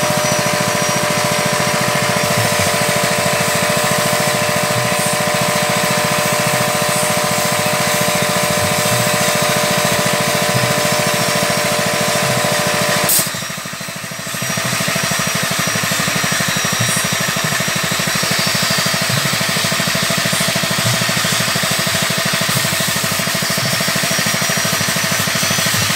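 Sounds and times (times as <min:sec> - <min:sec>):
machine motor running: 0:00.0 - 0:25.9.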